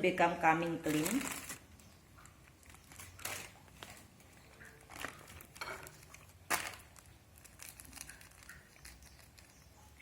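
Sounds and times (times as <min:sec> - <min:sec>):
plastic sachets crinkling: 0:00.6 - 0:10.0.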